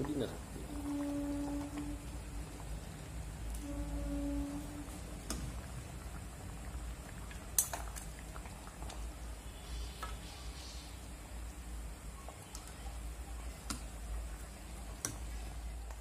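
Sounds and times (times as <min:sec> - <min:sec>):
curry simmering in a pan: 0:00.0 - 0:16.0
steady low hum: 0:00.0 - 0:16.0.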